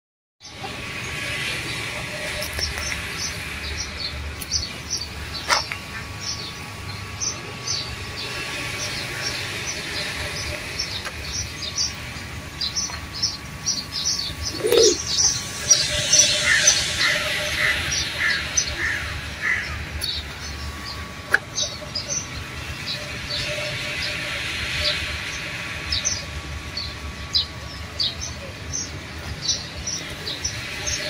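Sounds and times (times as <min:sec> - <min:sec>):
birds chirping: 0:00.4 - 0:31.0.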